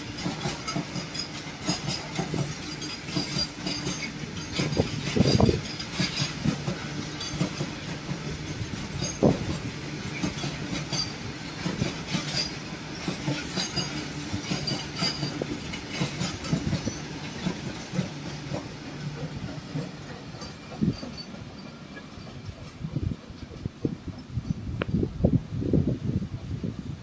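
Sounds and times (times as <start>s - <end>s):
freight train rumble: 0.0s - 27.0s.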